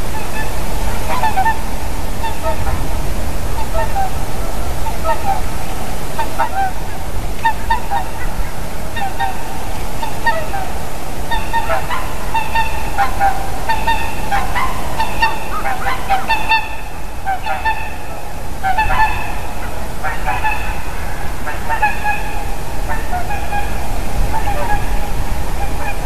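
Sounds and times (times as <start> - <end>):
swans honking: 0.0 - 26.0.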